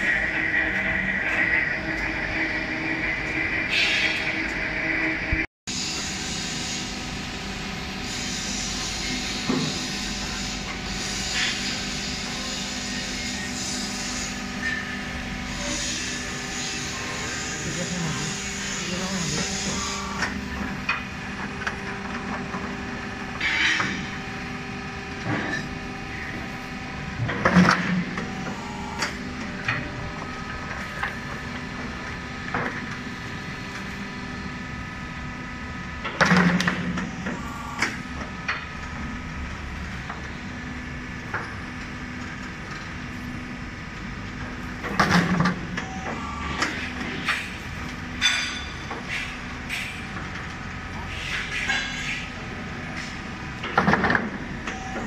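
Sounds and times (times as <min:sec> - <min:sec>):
block machine humming: 0:00.0 - 0:55.0.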